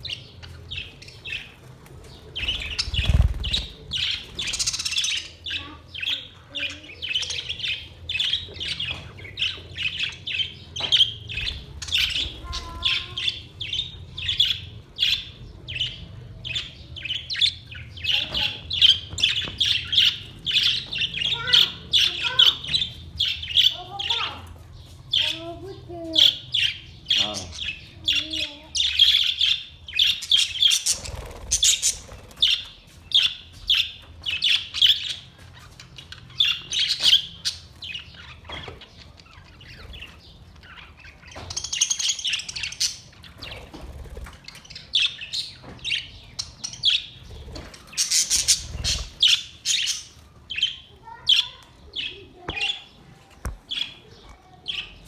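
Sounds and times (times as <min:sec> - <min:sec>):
budgerigars chirping: 0:00.0 - 0:24.4, 0:26.2 - 0:35.2, 0:36.0 - 0:52.9.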